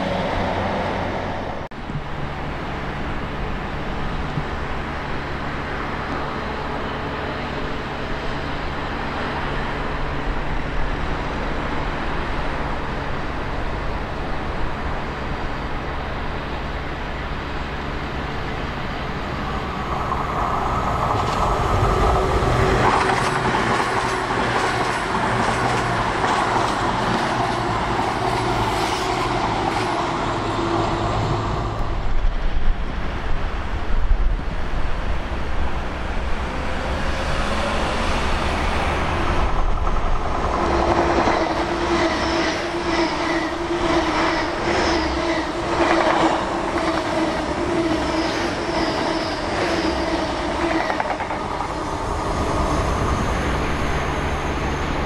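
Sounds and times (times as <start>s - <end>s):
diesel train engines running: 0.0s - 55.0s
train wheels on rails: 0.0s - 55.0s.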